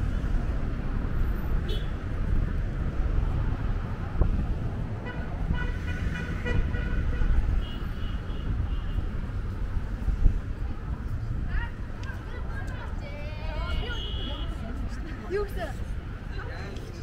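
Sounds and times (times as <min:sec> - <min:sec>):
city traffic rumbling: 0:00.0 - 0:17.0.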